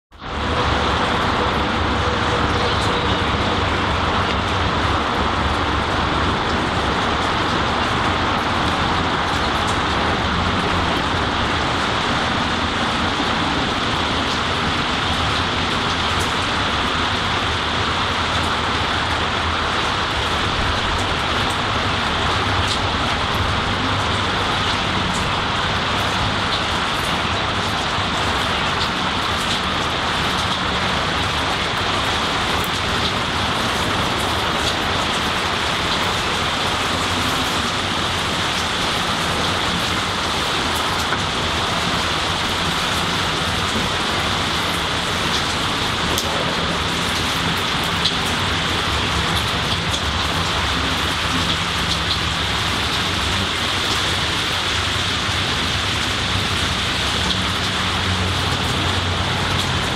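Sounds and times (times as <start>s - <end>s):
rain on trees: 0.1s - 59.9s.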